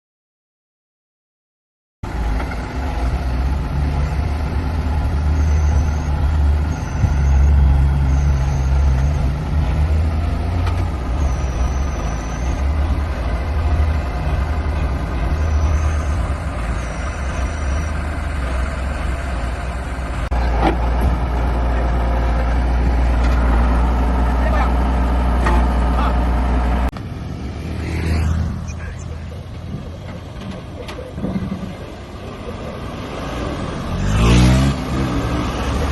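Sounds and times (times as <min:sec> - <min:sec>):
diesel truck engine running: 0:02.1 - 0:35.9.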